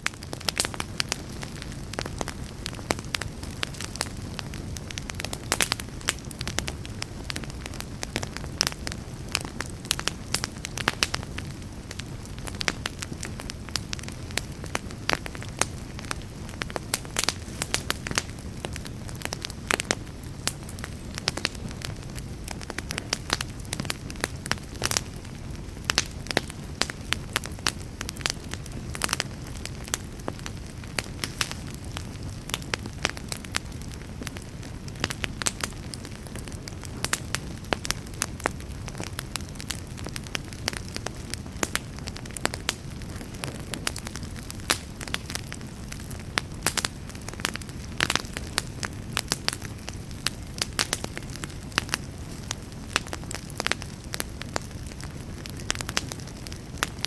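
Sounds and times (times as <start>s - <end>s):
burning wood crackling and popping: 0.0s - 57.0s
fire low rush: 0.2s - 55.6s.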